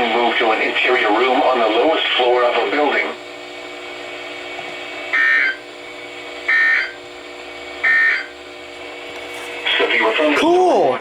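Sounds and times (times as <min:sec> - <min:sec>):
radio hum: 0:00.0 - 0:10.9.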